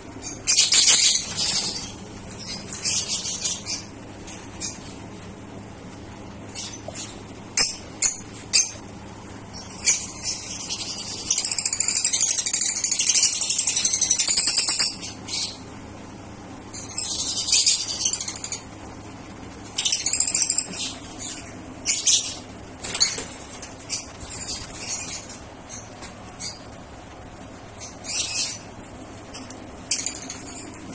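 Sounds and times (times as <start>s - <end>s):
birds chattering and squawking: 0.0s - 30.9s.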